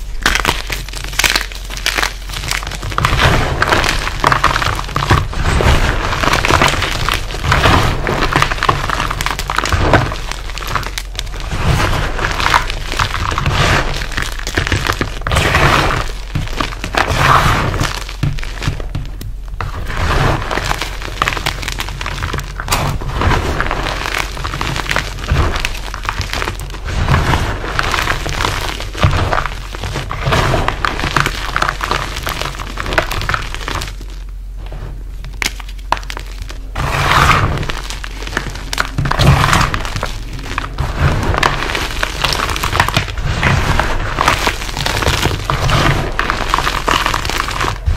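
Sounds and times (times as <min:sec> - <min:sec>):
sharp crackles: 0:00.0 - 0:34.3, 0:35.2 - 0:47.9.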